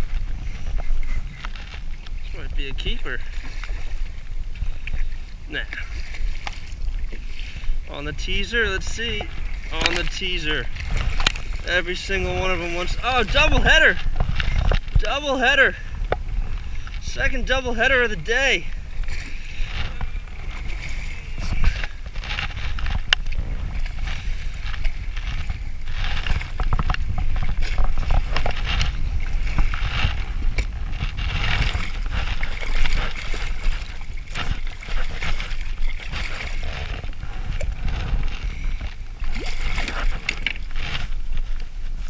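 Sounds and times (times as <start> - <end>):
water sloshing against hull: 0.0 - 42.0
wind rumbling on microphone: 0.0 - 42.0.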